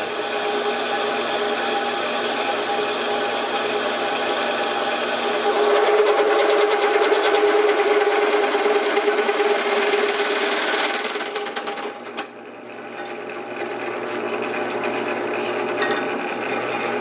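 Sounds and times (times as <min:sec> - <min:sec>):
drill bit boring into metal: 0:00.0 - 0:17.0
drill motor hum: 0:00.0 - 0:17.0.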